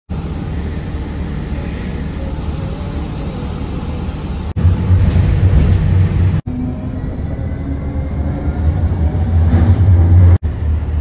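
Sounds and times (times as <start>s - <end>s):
transit vehicle rumble from inside: 0.1s - 11.0s.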